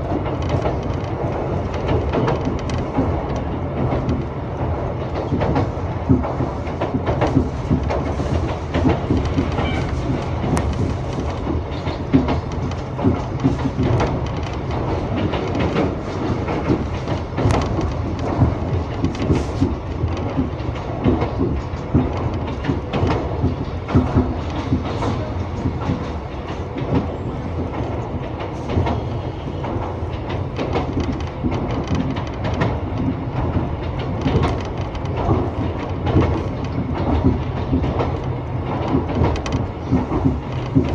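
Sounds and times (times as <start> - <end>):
train rumble on board: 0.0 - 40.9
wheels clicking over track: 0.0 - 40.9.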